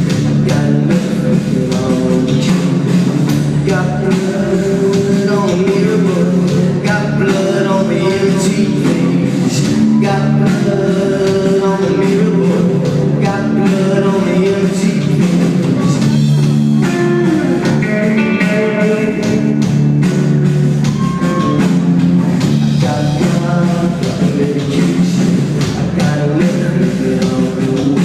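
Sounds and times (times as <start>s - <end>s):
drum kit: 0.0s - 28.0s
electric guitars: 0.0s - 28.0s
person singing: 0.0s - 28.0s.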